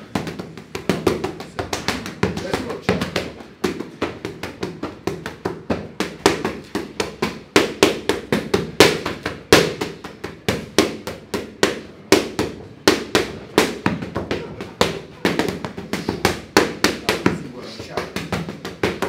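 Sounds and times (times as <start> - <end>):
boxing gloves striking mitts: 0.0 - 19.0.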